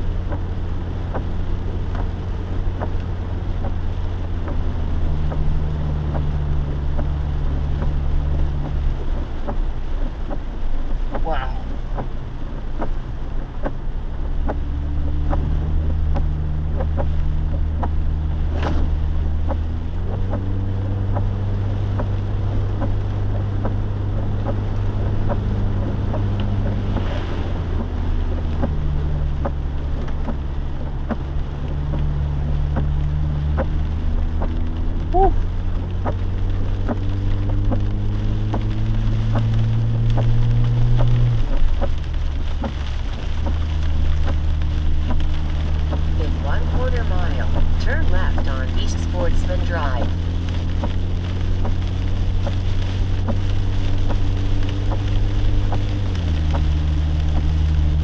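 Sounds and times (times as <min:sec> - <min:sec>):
car engine hum: 0:00.0 - 0:58.0
light ticking: 0:00.0 - 0:58.0
road noise: 0:00.0 - 0:58.0.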